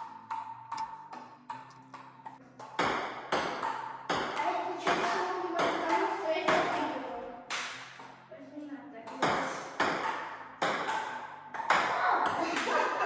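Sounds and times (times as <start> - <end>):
table tennis ball bouncing on paddle: 0.0 - 8.2, 9.0 - 12.8
table tennis rally hits: 0.0 - 8.2, 9.0 - 13.0.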